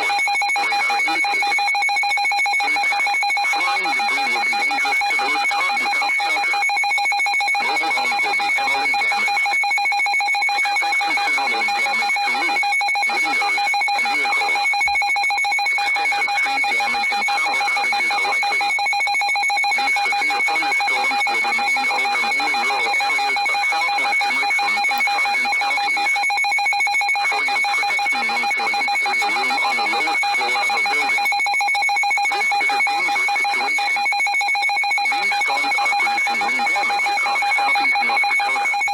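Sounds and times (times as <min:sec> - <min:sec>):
steady alarm tone: 0:00.0 - 0:38.9.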